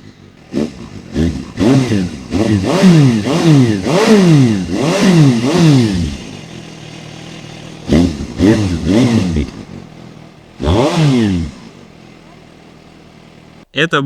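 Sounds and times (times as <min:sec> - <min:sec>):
motorcycle engine idling: 0:00.0 - 0:13.7
motorcycle engine revving: 0:00.0 - 0:13.7.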